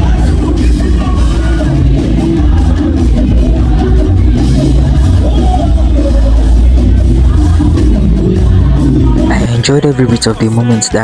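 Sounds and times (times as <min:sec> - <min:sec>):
loud music with heavy bass: 0:00.0 - 0:11.0
person singing: 0:00.0 - 0:11.0.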